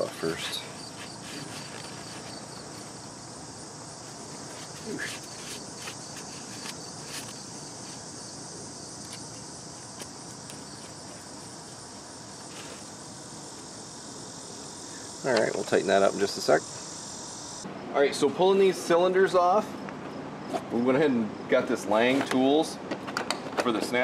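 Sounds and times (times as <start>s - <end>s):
insects chirring: 0.0s - 22.6s.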